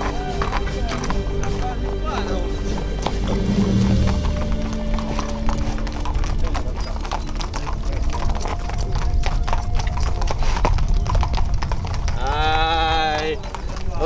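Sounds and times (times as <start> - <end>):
hooves on asphalt: 0.0 - 14.0.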